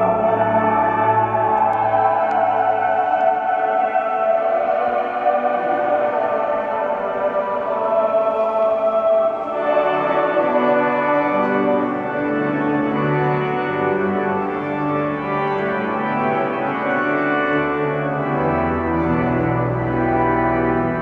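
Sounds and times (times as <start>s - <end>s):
pipe organ chords: 0.0s - 21.0s.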